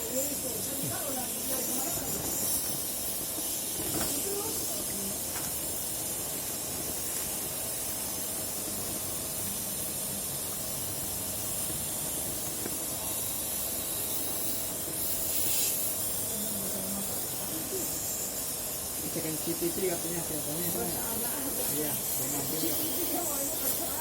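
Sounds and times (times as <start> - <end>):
steady hissing: 0.0 - 24.0.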